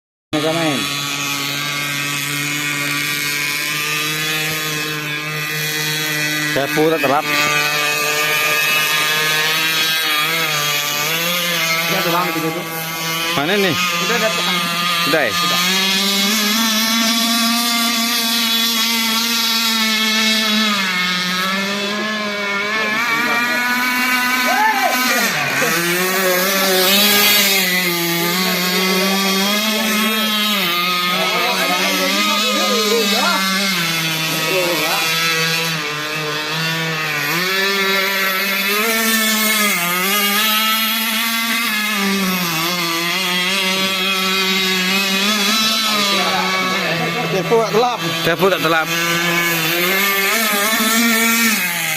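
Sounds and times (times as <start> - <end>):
toy boat motor whine: 0.4 - 51.9.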